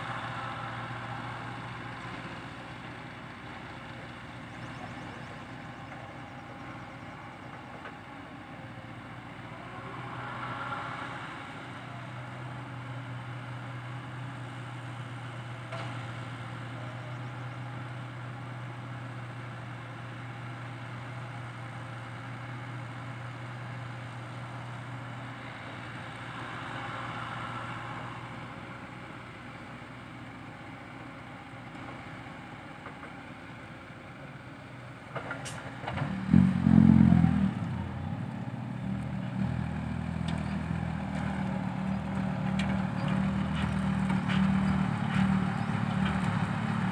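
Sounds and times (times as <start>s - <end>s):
diesel engines droning: 0.0s - 46.9s.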